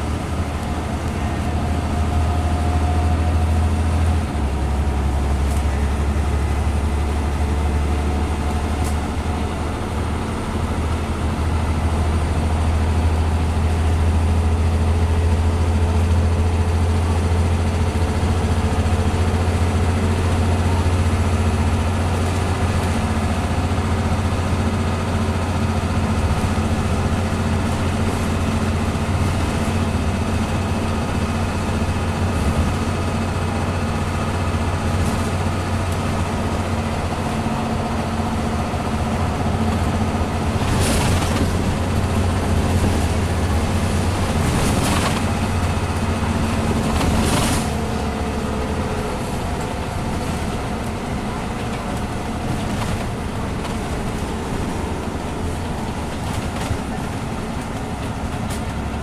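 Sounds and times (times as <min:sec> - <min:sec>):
bus engine droning: 0:00.0 - 0:59.0
road noise: 0:00.0 - 0:59.0.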